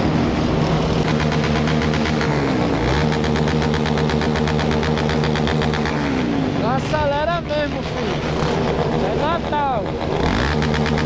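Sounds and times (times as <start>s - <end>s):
motorcycle engines with loud exhausts: 0.0s - 11.0s.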